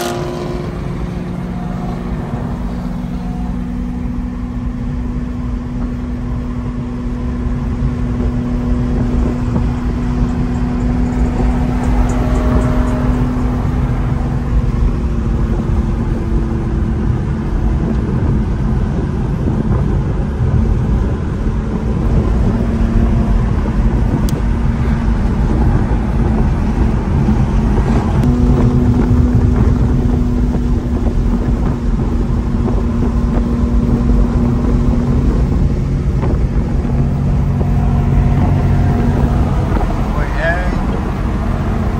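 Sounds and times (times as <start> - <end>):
car engine hum: 0.0 - 41.9
road and wind noise: 0.0 - 41.9.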